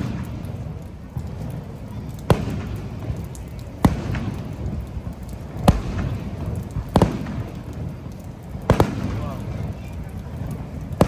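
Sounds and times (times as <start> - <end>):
fireworks bangs: 0.0 - 11.0
low background noise: 0.0 - 11.0.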